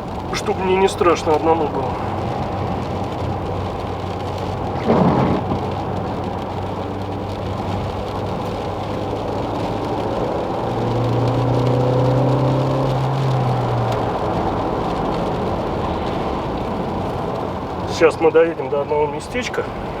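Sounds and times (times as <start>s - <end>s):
car engine running: 0.0s - 20.0s
road noise on wet road: 0.0s - 20.0s.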